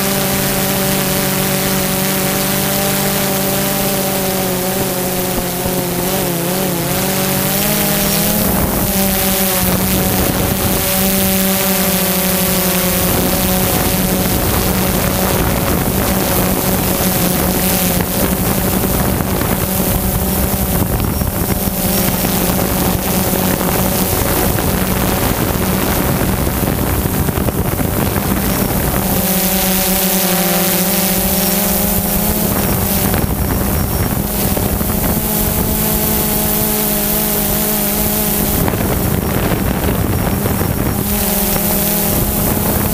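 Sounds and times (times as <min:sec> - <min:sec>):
drone motors buzzing: 0:00.0 - 0:42.9
propeller wash rushing over microphone: 0:00.0 - 0:42.9.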